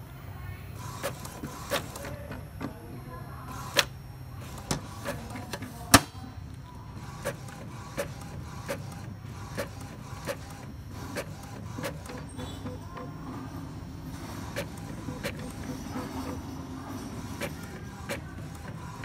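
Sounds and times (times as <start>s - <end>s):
printer carriage humming: 0.0s - 19.0s.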